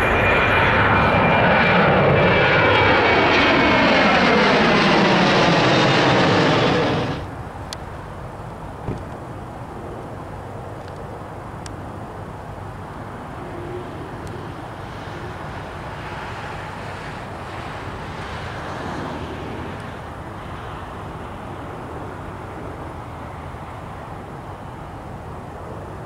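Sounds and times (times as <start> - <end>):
jet airliner taxiing rumble: 0.0 - 26.0.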